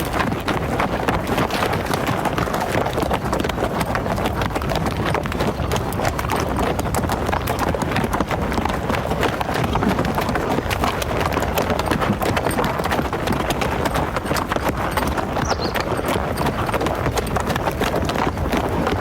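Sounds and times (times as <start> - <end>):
hooves clattering: 0.0 - 19.0.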